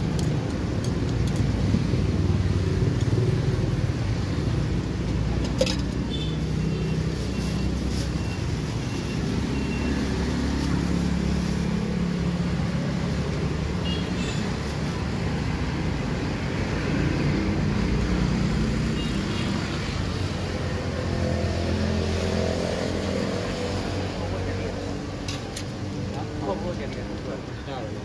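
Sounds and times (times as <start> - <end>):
street traffic: 0.0 - 28.0.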